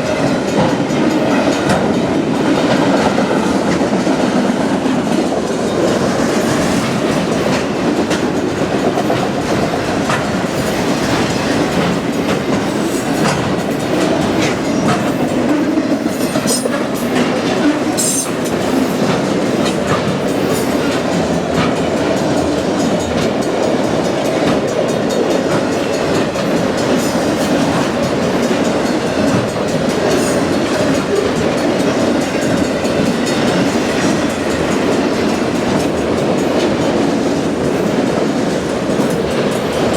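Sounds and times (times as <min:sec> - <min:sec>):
freight train rumbling and rattling: 0:00.0 - 0:39.9
wheels clacking over rails: 0:00.0 - 0:39.9.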